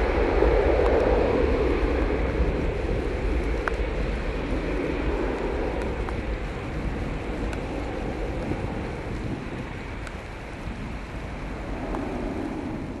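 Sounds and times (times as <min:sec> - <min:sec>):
distant jet engine roar: 0:00.0 - 0:13.0
wind buffeting microphone: 0:00.0 - 0:13.0.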